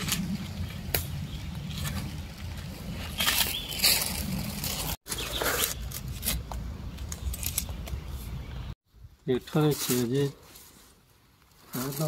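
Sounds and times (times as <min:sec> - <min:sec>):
leaves and undergrowth crunching: 0:00.0 - 0:08.5, 0:09.3 - 0:12.0.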